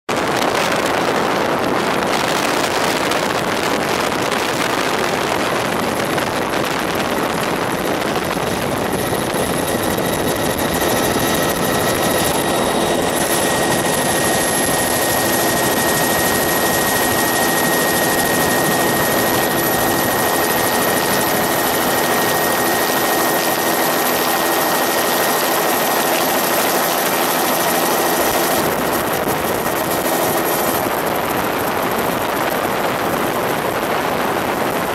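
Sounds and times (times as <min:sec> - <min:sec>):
drone rotor and motor noise: 0:00.2 - 0:34.9
high-pitched whine: 0:00.3 - 0:34.8.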